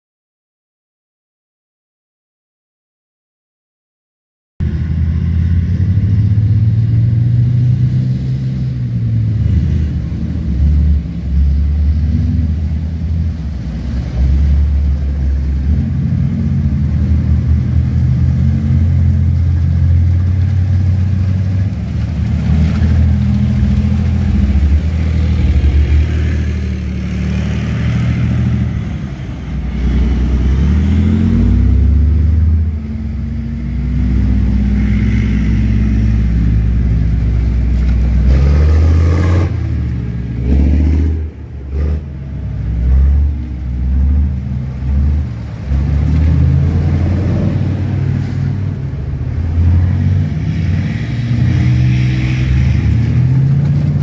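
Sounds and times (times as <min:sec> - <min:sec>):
tracked vehicle diesel engines revving: 0:04.6 - 0:54.0.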